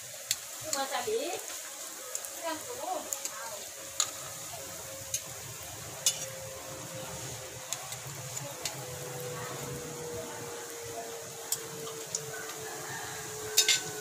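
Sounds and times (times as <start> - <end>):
donuts sizzling in hot oil: 0.0 - 14.0.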